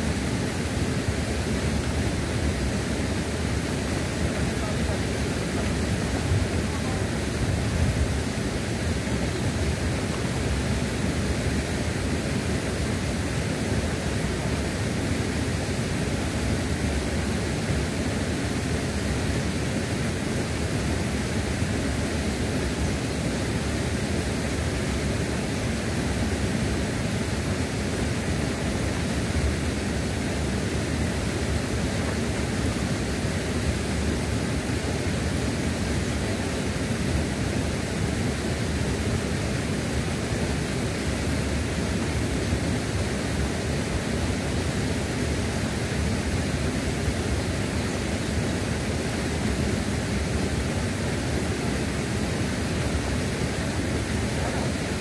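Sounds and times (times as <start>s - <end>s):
river rushing at waterfall: 0.0s - 55.0s.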